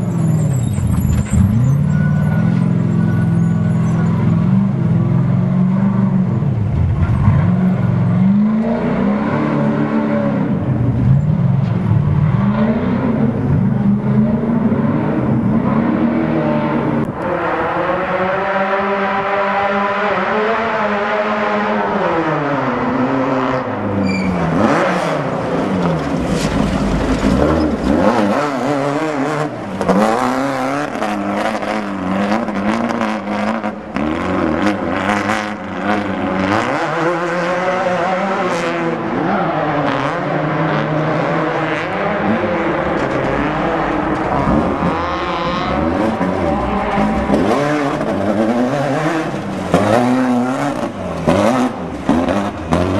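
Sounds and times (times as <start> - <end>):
racing engines revving: 0.0 - 52.9.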